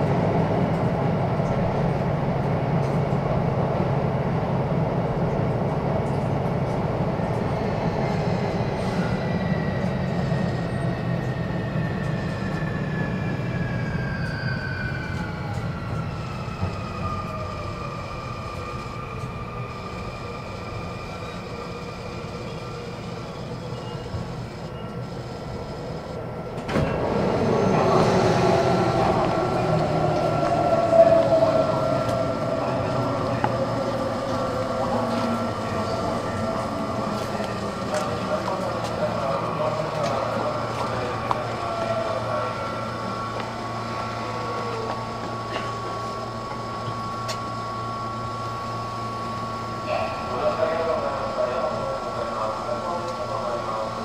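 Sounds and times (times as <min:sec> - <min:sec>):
train running in tunnel: 0:00.0 - 0:54.0
train inverter motor whine: 0:08.7 - 0:54.0.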